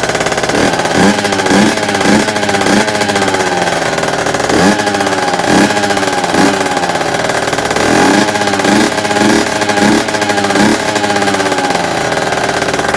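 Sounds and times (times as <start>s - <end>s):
scooter engine revving: 0.0s - 12.9s.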